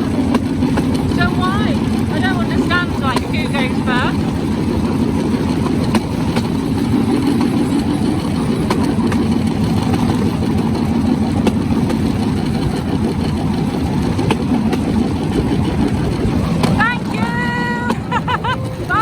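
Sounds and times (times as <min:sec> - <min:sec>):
sharp clacks: 0:00.0 - 0:19.0
small engine running: 0:00.0 - 0:19.0.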